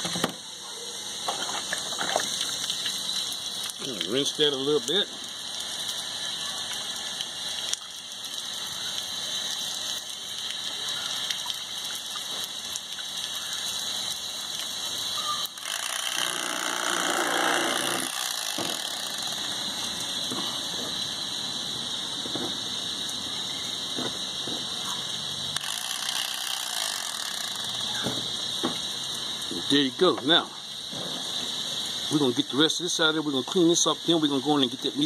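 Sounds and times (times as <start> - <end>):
tap water running: 1.2 - 35.0.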